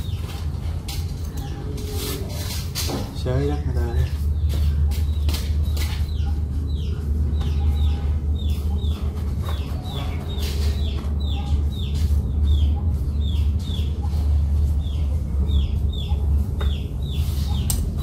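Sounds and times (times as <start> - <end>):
steady low rumble: 0.0 - 18.0
small bird chirping: 3.4 - 18.0.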